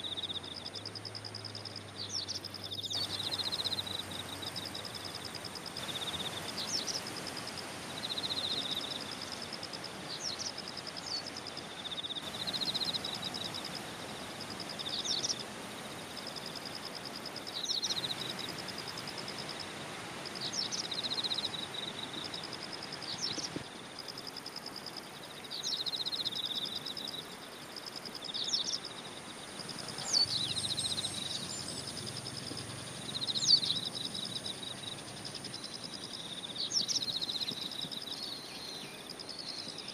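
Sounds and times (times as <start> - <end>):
birds and insects chirping: 0.0 - 39.9
faint background noise: 0.0 - 39.9
high insect drone: 0.0 - 39.9.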